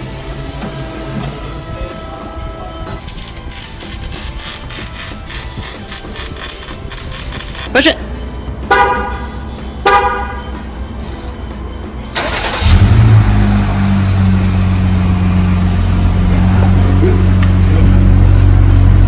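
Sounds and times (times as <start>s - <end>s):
engine cranking and idling: 0.0s - 19.0s.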